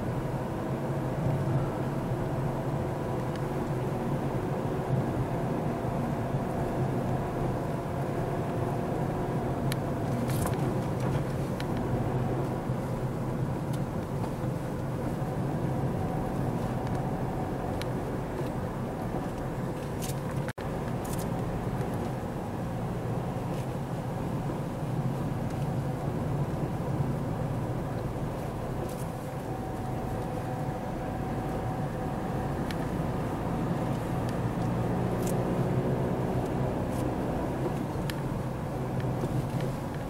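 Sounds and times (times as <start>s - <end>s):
car engine and tyre drone: 0.0s - 40.0s.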